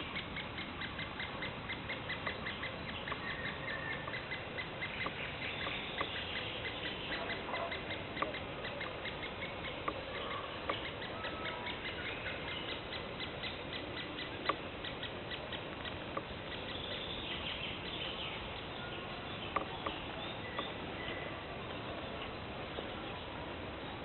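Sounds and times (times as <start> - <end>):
forest birds chirping: 0.0 - 24.0.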